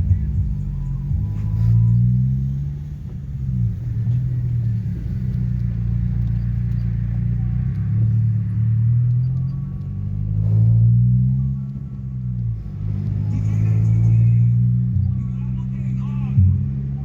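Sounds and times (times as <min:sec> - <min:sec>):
deep bass music through subwoofers: 0:00.0 - 0:17.0.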